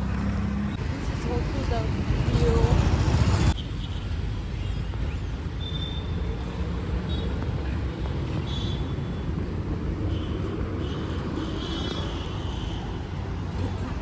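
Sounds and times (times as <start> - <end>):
passing vehicles rumble: 0.0 - 14.0.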